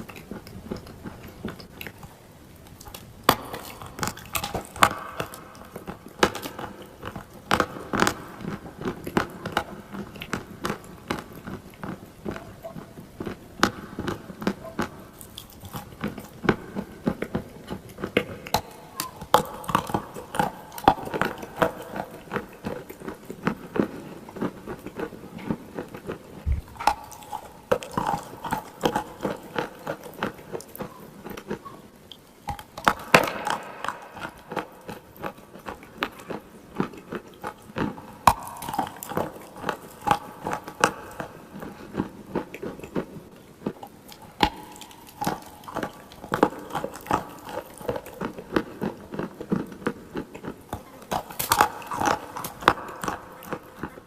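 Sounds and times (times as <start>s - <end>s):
clay being chewed: 0.0s - 54.0s.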